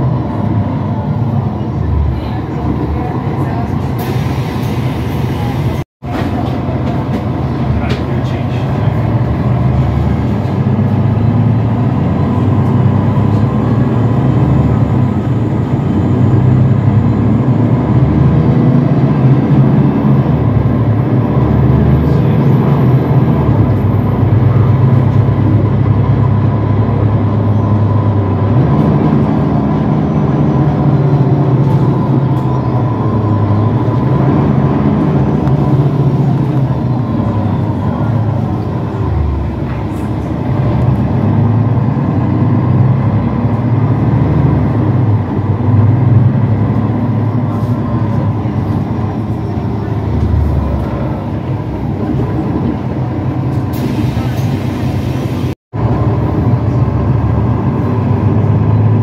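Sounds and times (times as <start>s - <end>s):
bus engine hum: 0.0s - 59.0s
road noise: 0.0s - 59.0s.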